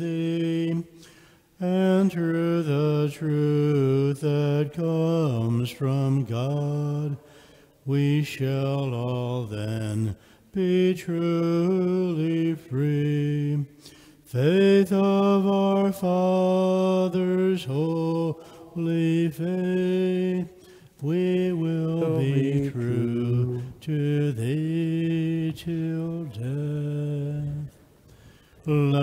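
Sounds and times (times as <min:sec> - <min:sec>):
men singing a hymn unaccompanied: 0:01.6 - 0:07.2, 0:07.9 - 0:27.8, 0:28.6 - 0:29.0.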